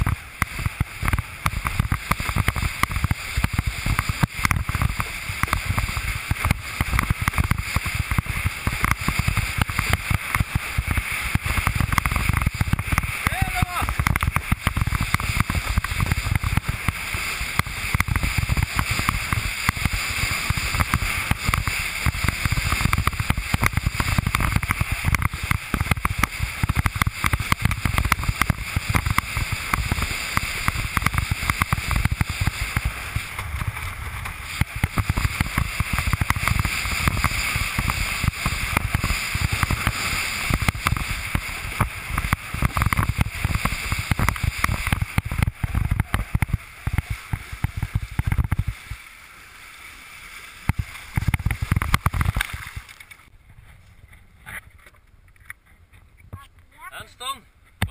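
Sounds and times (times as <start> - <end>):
water rushing and hissing: 0.0 - 53.3.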